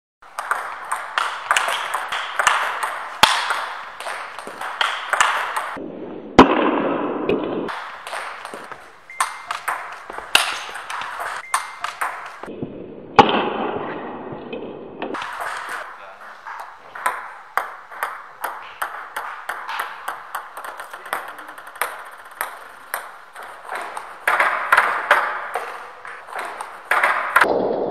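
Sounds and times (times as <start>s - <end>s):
table tennis ball hits: 0.3s - 27.9s.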